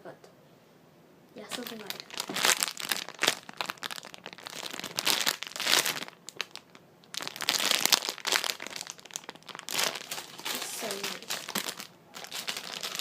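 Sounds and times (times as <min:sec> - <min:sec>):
packaging crinkling: 0:01.4 - 0:13.0.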